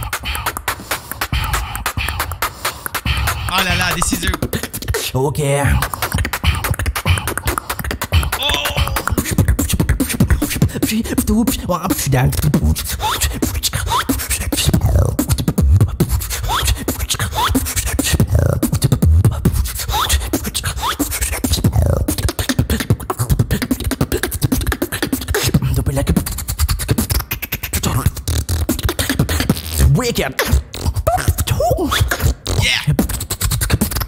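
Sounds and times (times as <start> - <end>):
vocal beatbox into microphone: 0.0 - 34.0.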